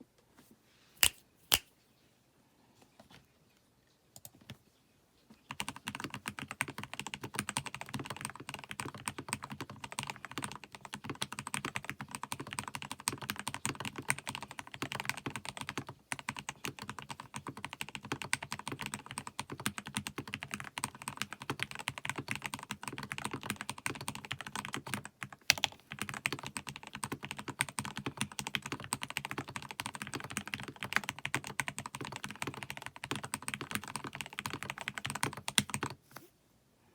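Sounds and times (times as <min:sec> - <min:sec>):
typing on mechanical keyboard: 0:05.5 - 0:36.0.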